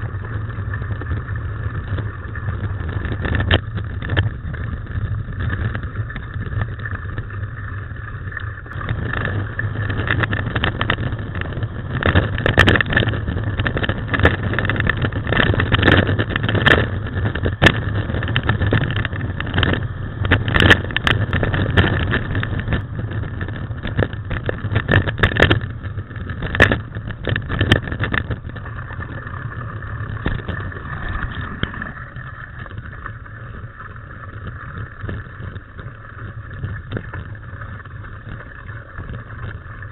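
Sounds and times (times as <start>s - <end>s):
bike knocks and rattles: 0.0s - 39.9s
wind and tyres rumbling: 0.0s - 39.9s.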